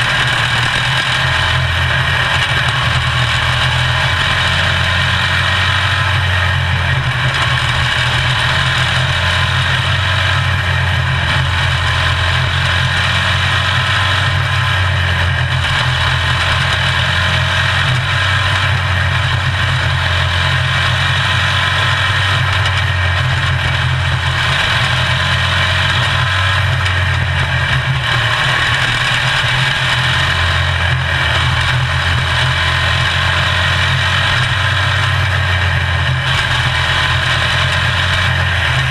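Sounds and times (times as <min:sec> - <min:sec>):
small race car engine running: 0:00.0 - 0:38.9.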